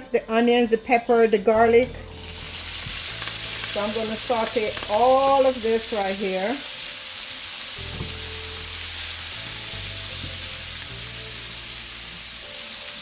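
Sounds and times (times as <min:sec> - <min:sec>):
background music with low notes: 0:00.0 - 0:13.0
vegetables sizzling in a pan: 0:00.4 - 0:13.0.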